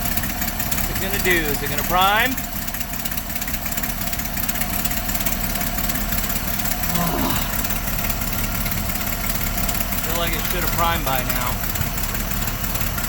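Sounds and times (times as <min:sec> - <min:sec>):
truck engine cranking on starter: 0:00.0 - 0:13.0.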